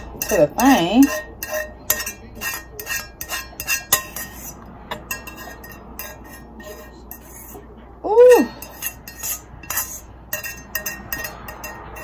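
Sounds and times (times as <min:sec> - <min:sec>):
utensil clinking against cooking pot: 0:00.0 - 0:07.6, 0:08.5 - 0:12.0.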